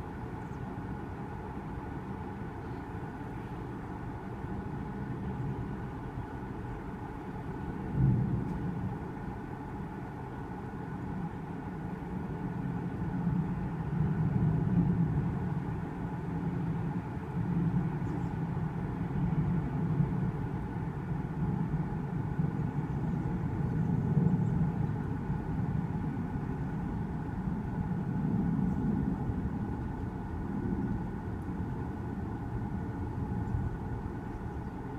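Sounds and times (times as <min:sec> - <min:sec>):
faint constant hum: 0:00.0 - 0:34.9
low engine rumble: 0:00.0 - 0:34.9.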